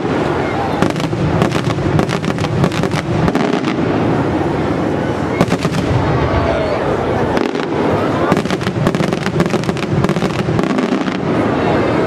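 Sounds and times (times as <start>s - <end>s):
sharp bangs and crackles: 0.0s - 4.6s, 5.4s - 6.2s, 7.3s - 11.6s
fireworks exploding: 0.0s - 12.0s.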